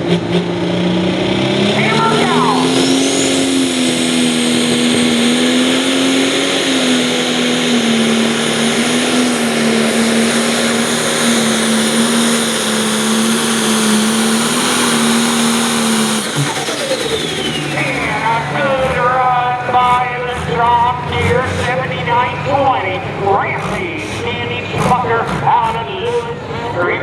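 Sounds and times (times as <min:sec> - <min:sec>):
diesel engine roaring under load: 0:00.0 - 0:27.0.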